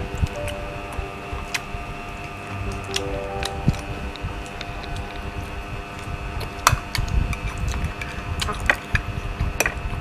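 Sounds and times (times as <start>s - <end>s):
low background rumble: 0.0s - 8.7s.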